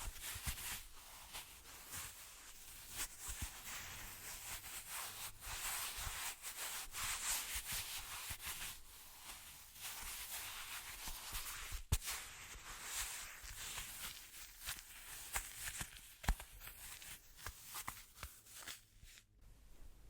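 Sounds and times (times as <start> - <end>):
hands rubbing together: 2.8 - 19.2.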